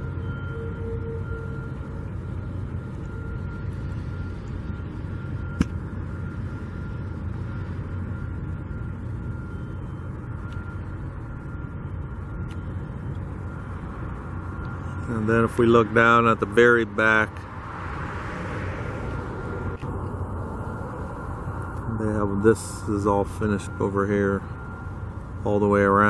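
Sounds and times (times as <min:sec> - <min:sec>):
distant engines and machinery: 0:00.0 - 0:26.0
thin steady whine: 0:00.0 - 0:26.0.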